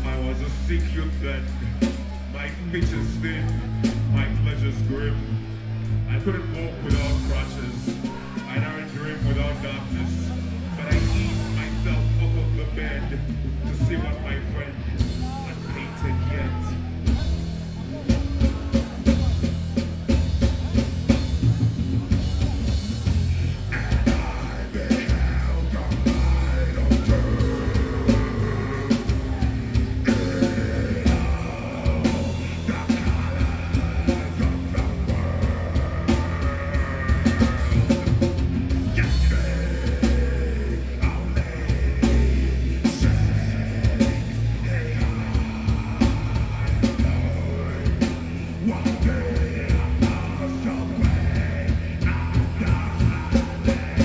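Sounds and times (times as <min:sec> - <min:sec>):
distorted electric guitars and bass: 0:00.0 - 0:54.0
pounding drum kit: 0:00.0 - 0:54.0
singer's vocals: 0:00.0 - 0:54.0.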